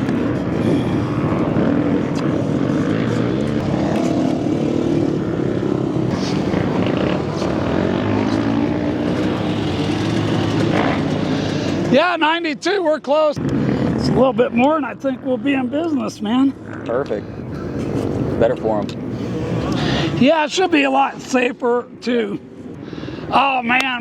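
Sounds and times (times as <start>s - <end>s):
dirt bike engines droning: 0.0s - 24.0s.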